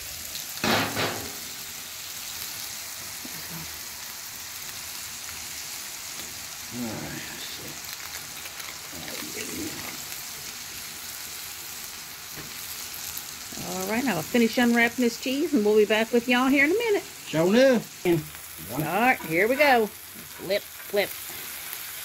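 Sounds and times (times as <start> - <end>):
patties sizzling on griddle: 0.0 - 22.0.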